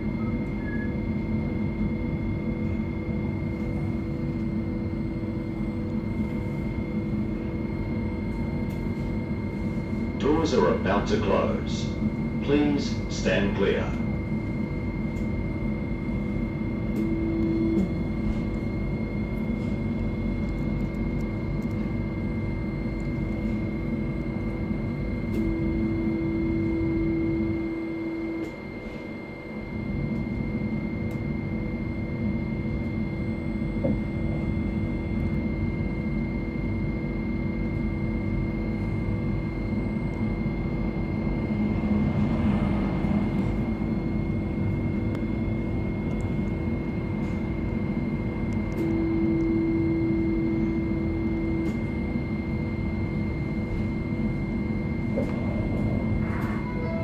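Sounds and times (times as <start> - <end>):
tram interior hum and whir: 0.0 - 57.0
plain steady tone: 5.6 - 38.3, 43.4 - 57.0.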